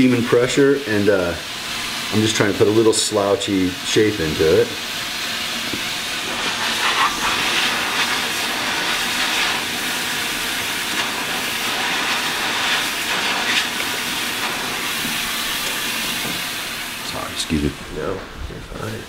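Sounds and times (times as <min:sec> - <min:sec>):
steamer hissing steam: 0:00.0 - 0:19.0.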